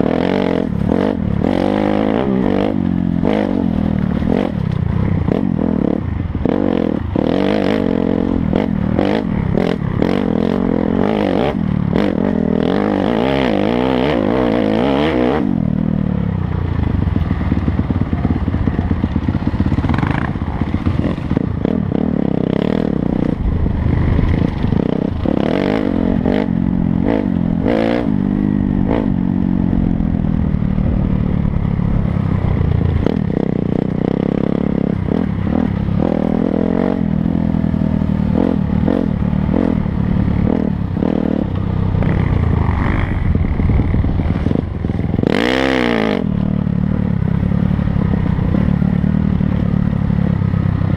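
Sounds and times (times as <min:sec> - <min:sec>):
dirt bike engine revving: 0:00.0 - 0:16.0, 0:17.0 - 0:50.7.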